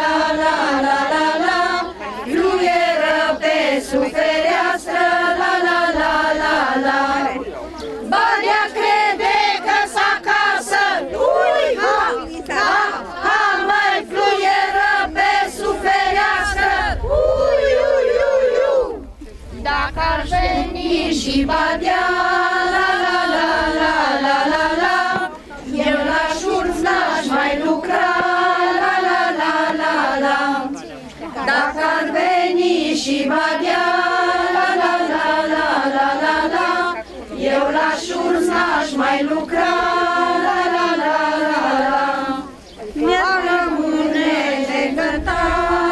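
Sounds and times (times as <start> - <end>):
women singing unaccompanied: 0.0 - 45.9.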